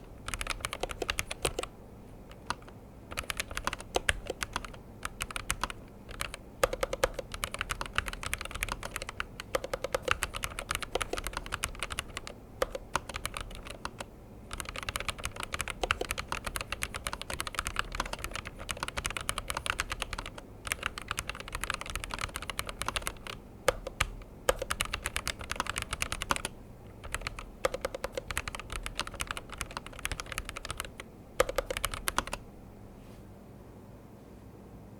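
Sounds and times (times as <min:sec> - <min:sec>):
mechanical keyboard typing: 0:00.0 - 0:01.7, 0:02.3 - 0:32.4.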